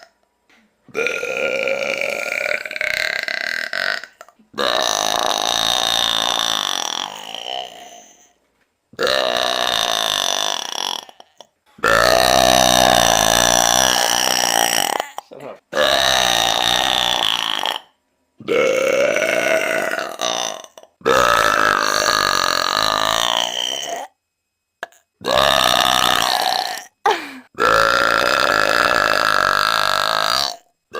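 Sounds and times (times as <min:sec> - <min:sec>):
woman belching: 0:00.9 - 0:08.4, 0:09.0 - 0:24.2, 0:24.8 - 0:30.6.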